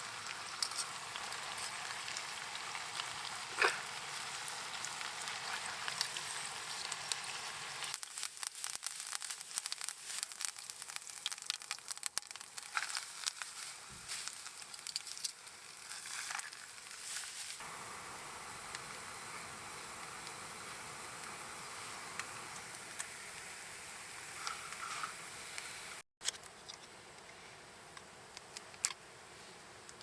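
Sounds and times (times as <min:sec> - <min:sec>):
food sizzling and popping: 0:00.0 - 0:26.0.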